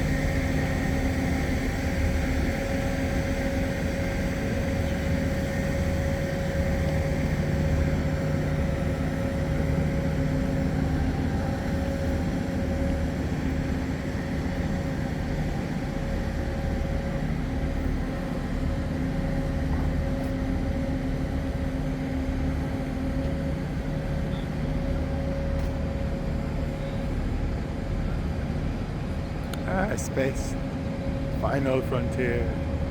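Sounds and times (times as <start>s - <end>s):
mechanical hum with held tones: 0.0s - 32.9s
noisy rumble: 0.0s - 32.9s.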